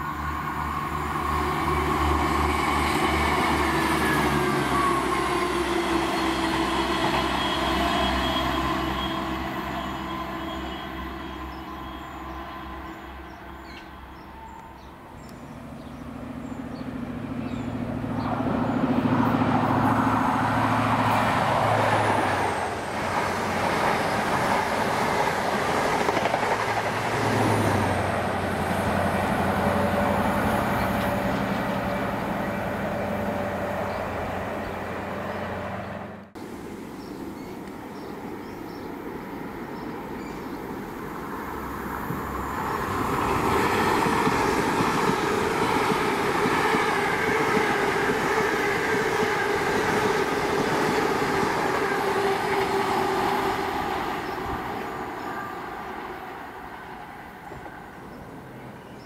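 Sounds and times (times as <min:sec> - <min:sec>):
train wheel noise: 0:00.0 - 0:36.5, 0:39.0 - 0:57.7
diesel train passing: 0:00.0 - 0:59.0.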